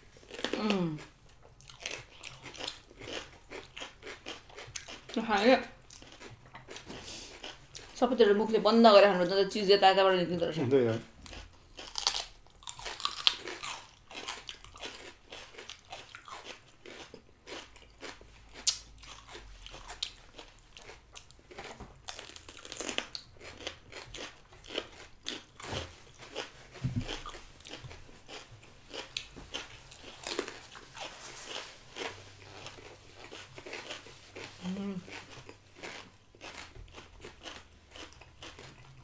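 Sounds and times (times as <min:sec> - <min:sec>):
crunchy biting and chewing: 0:00.1 - 0:05.2, 0:05.8 - 0:08.0, 0:11.2 - 0:39.0.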